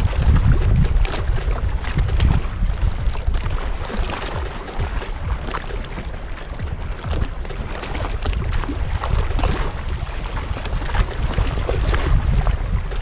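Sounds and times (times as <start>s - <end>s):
light clicks and ticks: 0.0s - 13.0s
wind buffeting microphone: 0.0s - 13.0s.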